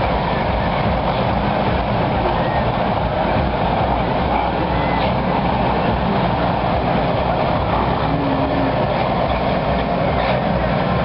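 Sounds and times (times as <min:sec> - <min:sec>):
lorry diesel engine driving past: 0:00.0 - 0:11.0
outdoor background noise: 0:00.0 - 0:11.0.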